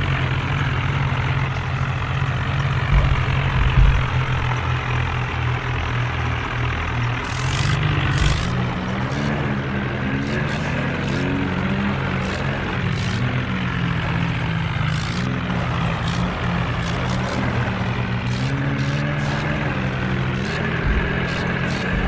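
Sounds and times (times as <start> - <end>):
tractor diesel engine straining: 0.0 - 22.0.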